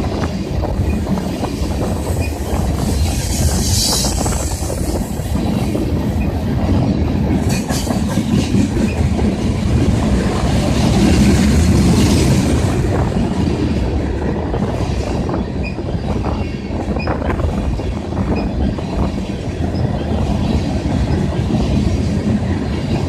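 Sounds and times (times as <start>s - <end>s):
low train rumble: 0.0s - 23.0s
train wheels clattering: 0.0s - 23.0s
wind buffeting microphone: 0.0s - 23.0s.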